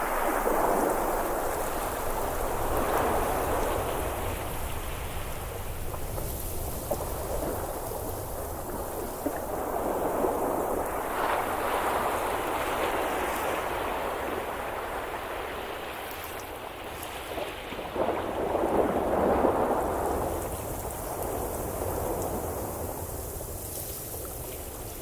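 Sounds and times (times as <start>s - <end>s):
rain and water rushing: 0.0s - 25.0s.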